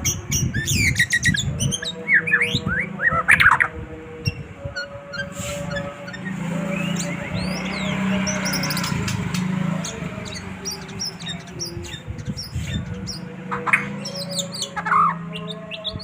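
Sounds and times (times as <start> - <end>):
bird whistled song: 0.0 - 3.6, 4.3 - 16.0.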